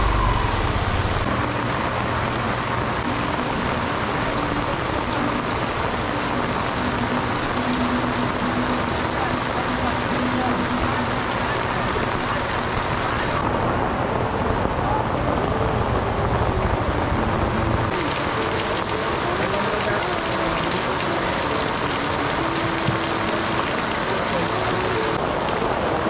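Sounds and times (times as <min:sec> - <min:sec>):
torrential rain on awnings: 0:00.0 - 0:26.0.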